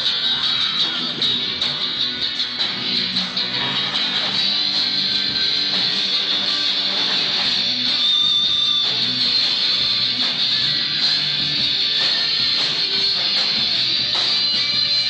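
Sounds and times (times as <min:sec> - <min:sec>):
band playing: 0:00.0 - 0:15.0.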